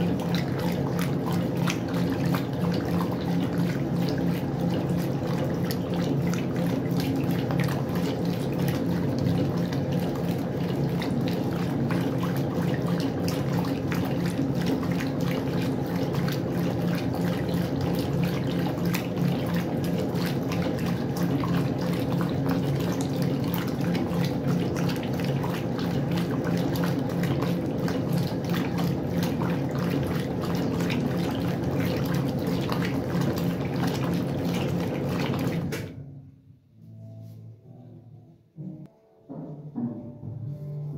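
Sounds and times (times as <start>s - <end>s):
water splashing in drum: 0.0s - 36.0s
washing machine motor hum: 0.0s - 36.5s.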